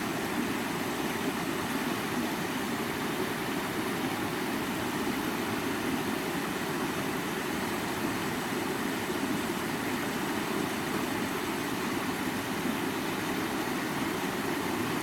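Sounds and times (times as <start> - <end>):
stream water over rocks: 0.0 - 15.0.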